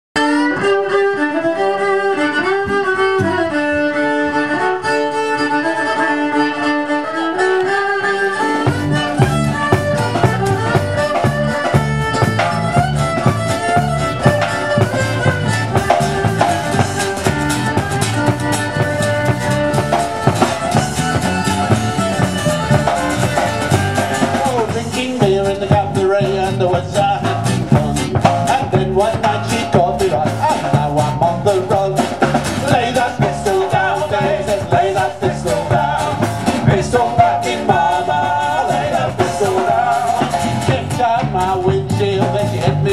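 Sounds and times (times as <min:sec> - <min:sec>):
country band playing: 0:00.2 - 0:42.9
fiddle playing a tune: 0:00.2 - 0:42.9.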